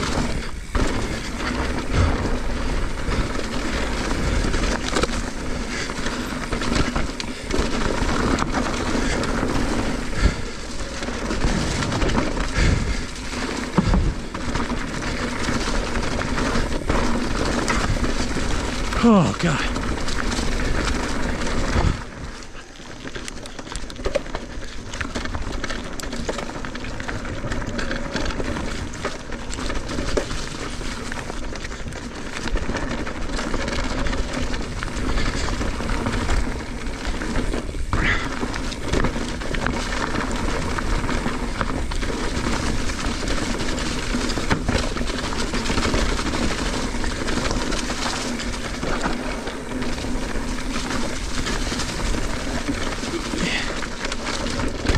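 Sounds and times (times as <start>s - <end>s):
bike tyre and trail noise: 0.0s - 54.9s.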